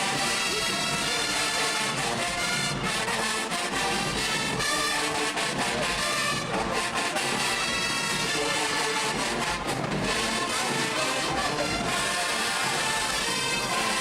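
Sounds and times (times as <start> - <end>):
marching band brass: 0.0 - 14.0
marching band drums: 0.0 - 14.0.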